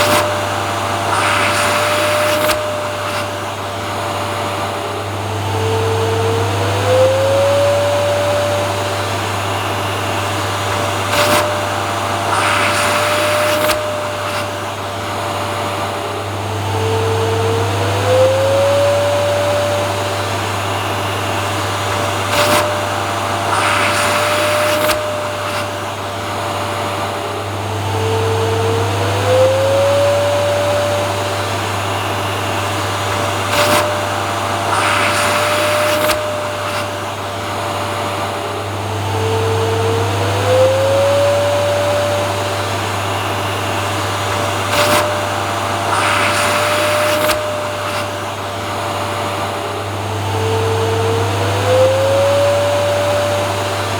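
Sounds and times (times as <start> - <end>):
vacuum cleaner motor whining: 0.0 - 53.9.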